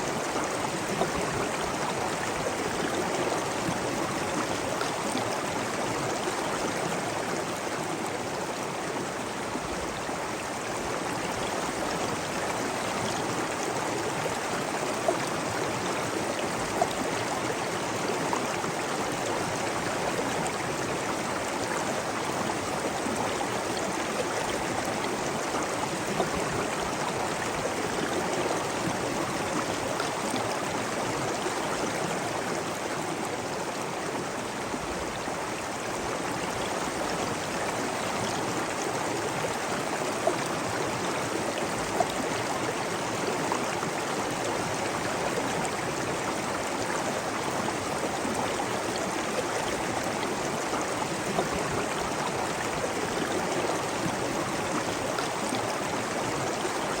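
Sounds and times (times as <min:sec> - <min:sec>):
water flowing over stones: 0:00.1 - 0:57.0.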